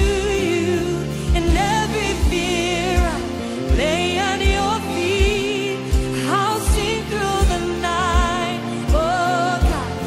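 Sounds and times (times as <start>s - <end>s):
live band playing: 0.0s - 10.0s
person singing: 0.0s - 10.0s.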